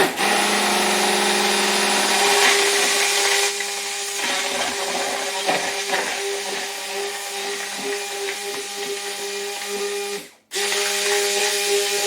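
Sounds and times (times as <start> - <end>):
electric hand blender whining: 0.0 - 12.0.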